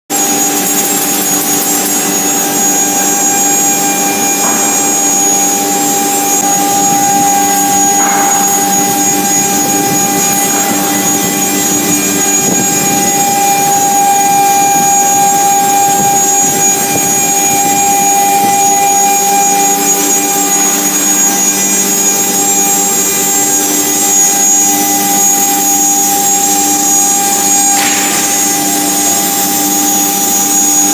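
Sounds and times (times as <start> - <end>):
router cutting wood: 0.1 - 22.1, 27.2 - 30.9
router spindle whining: 0.1 - 22.4, 27.2 - 30.9.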